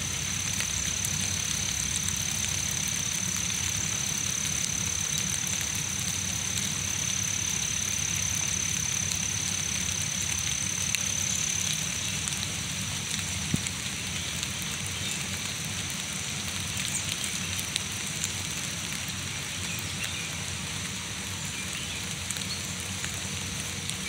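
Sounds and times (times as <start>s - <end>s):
heavy rain on leaves: 0.0s - 24.0s.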